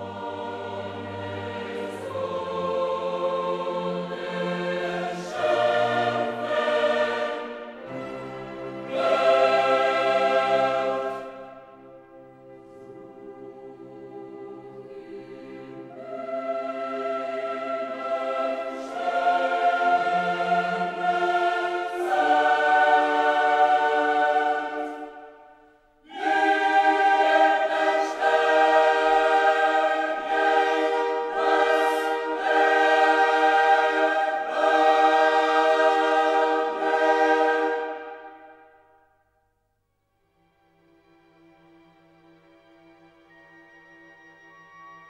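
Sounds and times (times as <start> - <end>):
choir singing held chords: 0.0 - 39.3.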